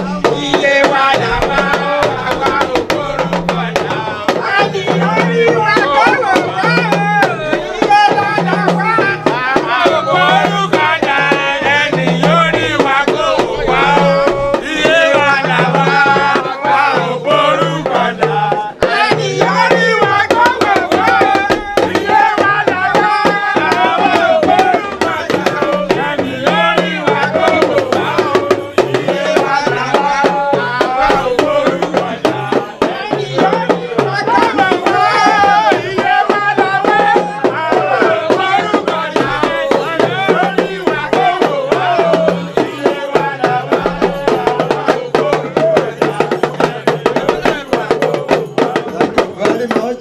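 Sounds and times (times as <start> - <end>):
hand percussion: 0.0 - 50.0
voices singing: 0.0 - 50.0.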